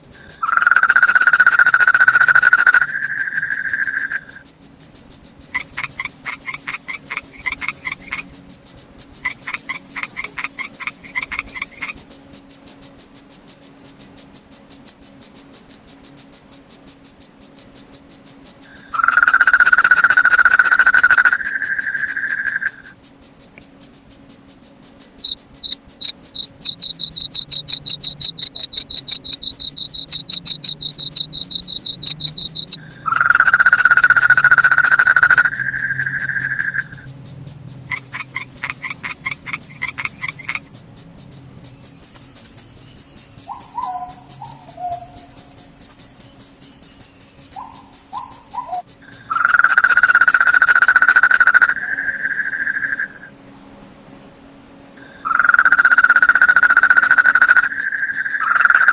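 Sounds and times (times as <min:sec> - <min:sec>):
second insect chirping: 0:00.0 - 0:53.3, 0:55.0 - 0:58.9
crickets chirping: 0:00.0 - 0:53.4, 0:55.0 - 0:58.9
loud low insect trill: 0:00.0 - 0:53.4, 0:55.0 - 0:58.9.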